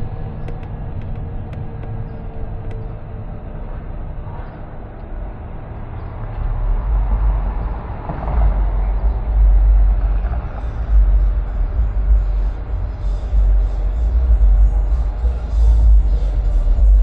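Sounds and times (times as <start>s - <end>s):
car road and engine noise: 0.0s - 17.0s
deep low rumble: 0.0s - 17.0s.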